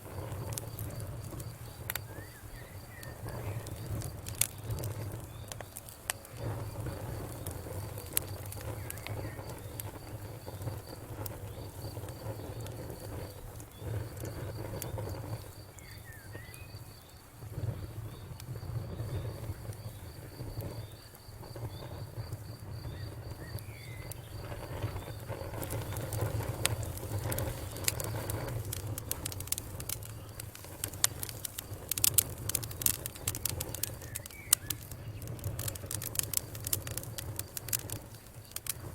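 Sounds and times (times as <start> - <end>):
wood fire crackling: 0.0 - 38.9
insect chirping: 0.1 - 38.9.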